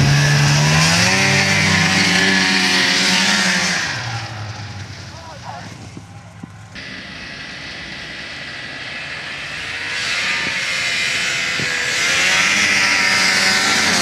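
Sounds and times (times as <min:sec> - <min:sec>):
snowmobile engine running: 0:00.0 - 0:14.0.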